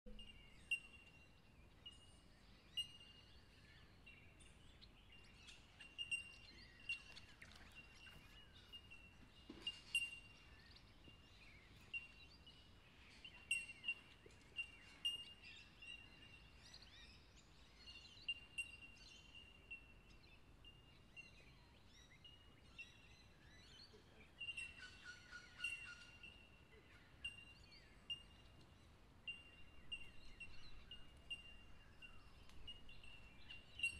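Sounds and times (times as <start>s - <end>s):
birds chirping: 0.1s - 33.9s
faint outdoor background hum: 0.1s - 33.9s.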